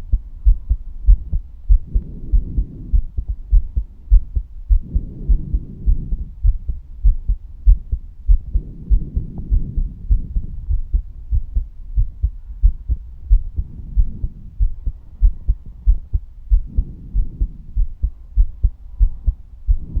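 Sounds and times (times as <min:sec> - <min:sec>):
heartbeat thumps: 0:00.0 - 0:20.0.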